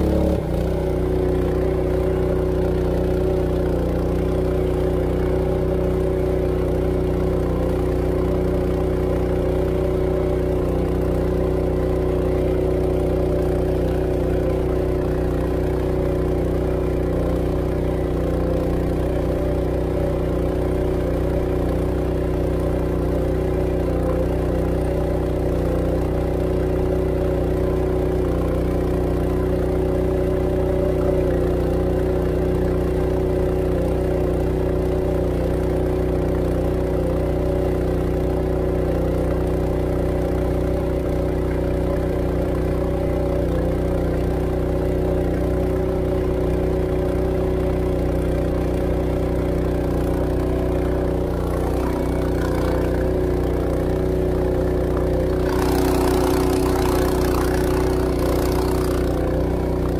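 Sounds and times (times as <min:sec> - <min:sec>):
boat engine running steadily: 0:00.0 - 0:59.9.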